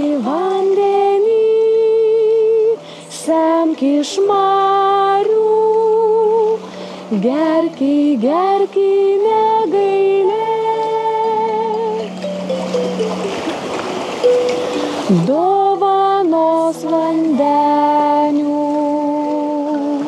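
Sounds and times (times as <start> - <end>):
children singing wordless tune: 0.0 - 13.7, 14.3 - 20.0.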